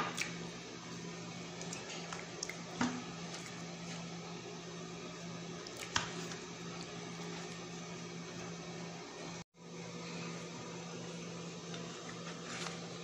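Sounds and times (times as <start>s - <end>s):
appliance humming: 0.0s - 13.0s.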